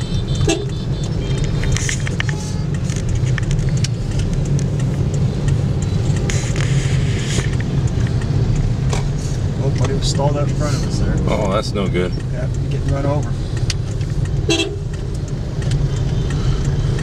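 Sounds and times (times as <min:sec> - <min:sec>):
motorbike engines rumbling: 0:00.0 - 0:17.0.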